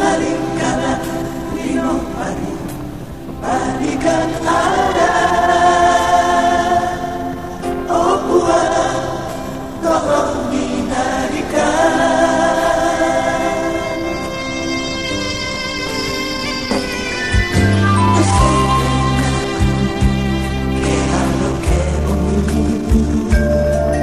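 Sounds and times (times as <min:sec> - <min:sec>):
group singing long held phrases: 0:00.0 - 0:15.2, 0:17.6 - 0:24.0.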